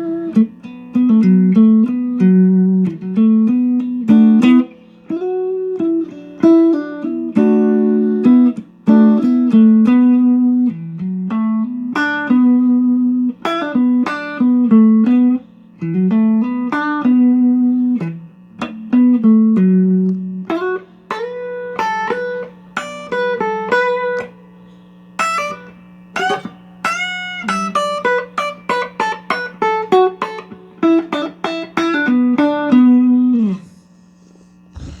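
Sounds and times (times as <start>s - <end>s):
electric guitar notes: 0.0s - 33.9s.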